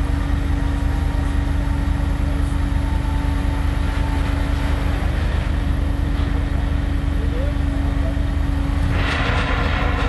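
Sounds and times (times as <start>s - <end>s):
heavy machinery engine rumble: 0.0s - 10.0s.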